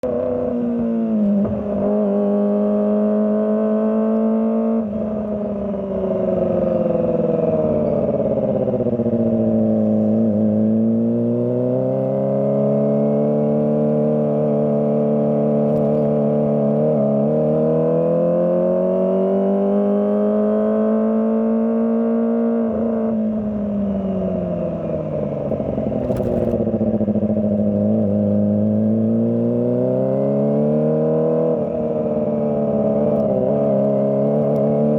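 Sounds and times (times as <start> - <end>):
motorcycle engine revving: 0.0 - 23.7, 24.3 - 34.9.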